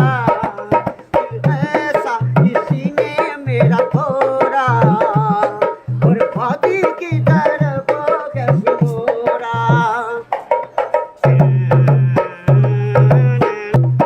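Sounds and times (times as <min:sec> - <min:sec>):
barrel drum played by hand: 0:00.0 - 0:14.0
person singing: 0:00.0 - 0:14.0.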